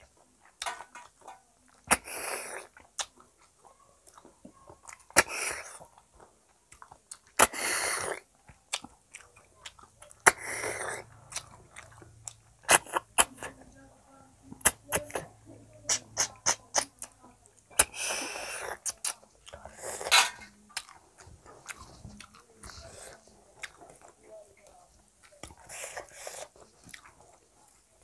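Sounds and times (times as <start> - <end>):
person chewing: 0.0 - 13.6, 14.5 - 28.0.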